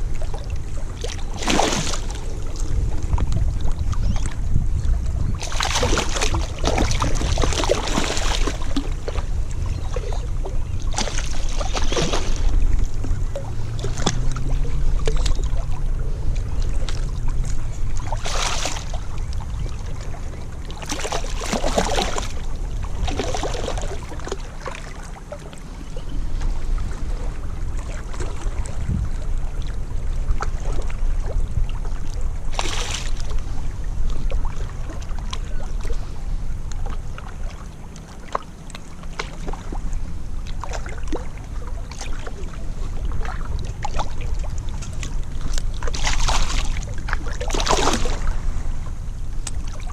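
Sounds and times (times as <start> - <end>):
wind rumbling on microphone: 0.0 - 49.9.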